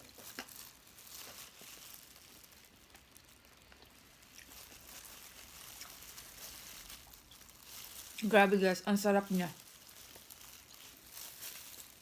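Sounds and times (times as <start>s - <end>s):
chewing food: 0.0s - 8.2s, 9.6s - 12.0s.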